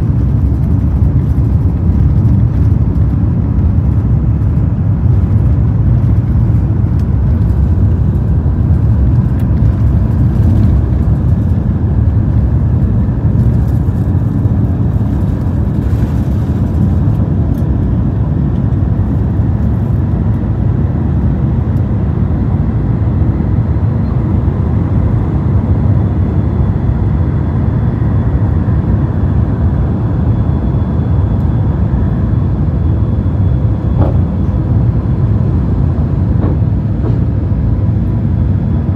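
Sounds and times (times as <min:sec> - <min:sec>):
faint high engine whine: 0:00.0 - 0:38.9
jet engine low rumble: 0:00.0 - 0:38.9.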